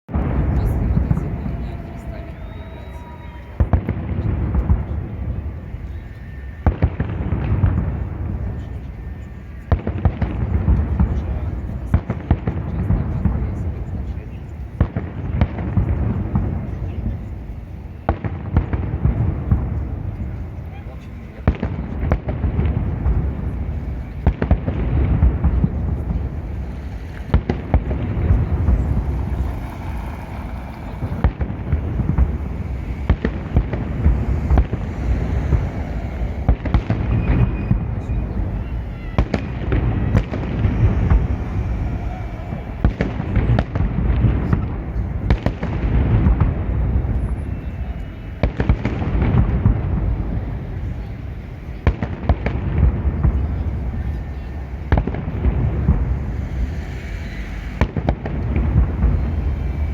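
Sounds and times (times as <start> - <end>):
fireworks bangs: 0.1 - 59.9
steady low rumble: 0.1 - 59.9.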